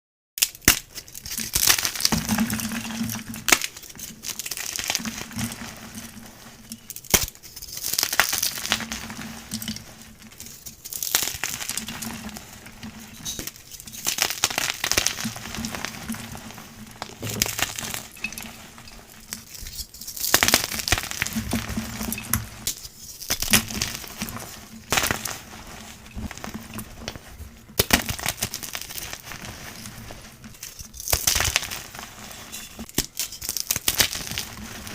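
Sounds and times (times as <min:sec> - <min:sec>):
chalk crunching and crumbling: 0:00.5 - 0:34.9.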